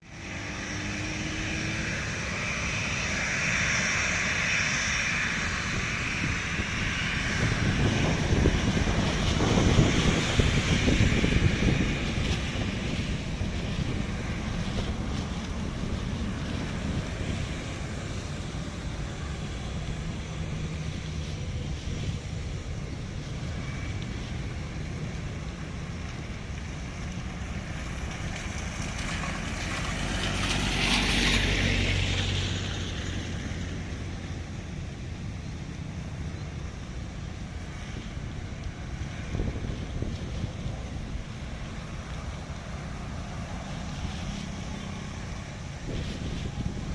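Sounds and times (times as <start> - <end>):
jet blast buffeting microphone: 0.0 - 46.9
jet engines roaring: 0.0 - 46.9.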